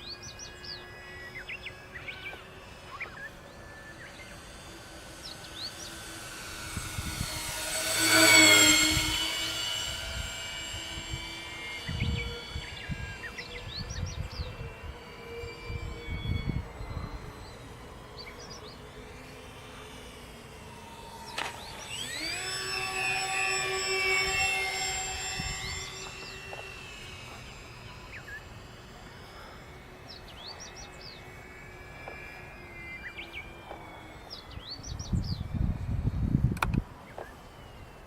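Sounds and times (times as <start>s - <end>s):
birds chirping: 0.0s - 35.6s
model aircraft motors whining: 0.0s - 38.0s.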